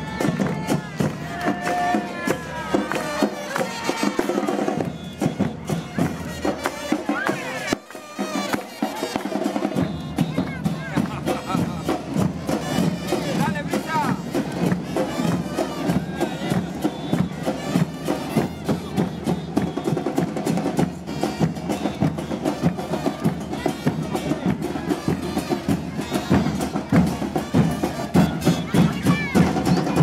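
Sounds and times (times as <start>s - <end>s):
fast loud drumming: 0.0s - 30.0s
pitched sounds over drums: 0.0s - 30.0s.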